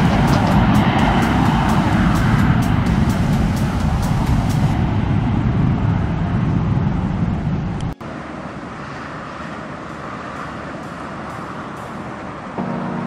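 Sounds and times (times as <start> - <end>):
hissing jet noise: 0.0 - 6.6, 8.0 - 13.0
jet engines loud rumble: 0.0 - 13.0.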